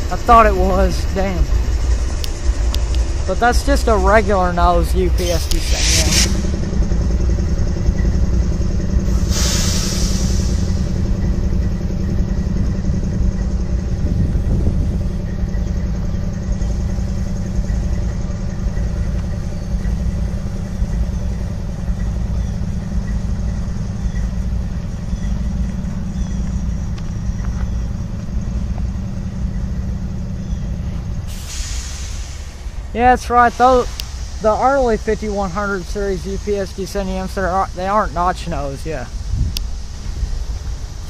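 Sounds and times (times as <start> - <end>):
diesel locomotives idling: 0.0 - 41.0.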